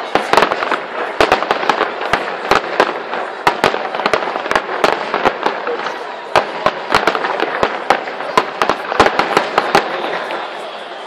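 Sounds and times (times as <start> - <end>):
fireworks bursting with sharp bangs: 0.0 - 11.0
fireworks crackle: 0.0 - 11.0.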